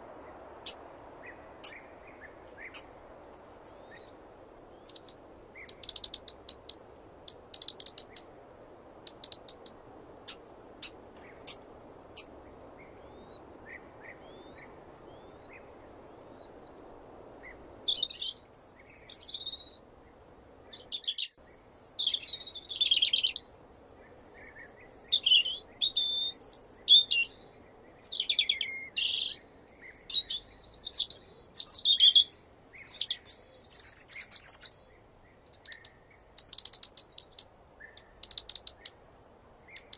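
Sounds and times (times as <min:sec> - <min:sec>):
robin singing: 0:00.3 - 0:11.6, 0:12.2 - 0:39.9.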